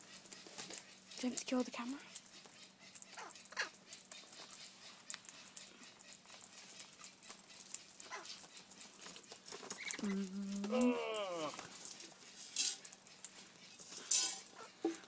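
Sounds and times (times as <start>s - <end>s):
parrots squeaky calls: 0.1s - 13.8s, 14.4s - 14.8s.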